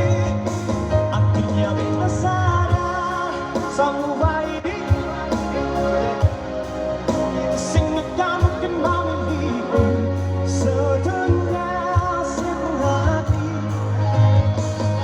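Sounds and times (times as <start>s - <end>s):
pop song over loudspeakers: 0.0s - 15.0s.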